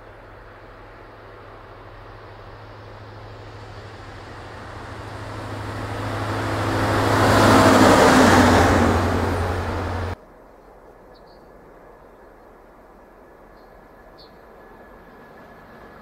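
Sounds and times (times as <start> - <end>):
locomotive engine drone: 0.0 - 10.2, 12.7 - 16.0.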